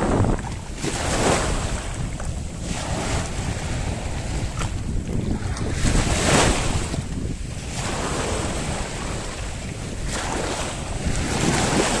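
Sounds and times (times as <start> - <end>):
small waves splashing: 0.0 - 12.0
wind rumble on microphone: 0.0 - 12.0.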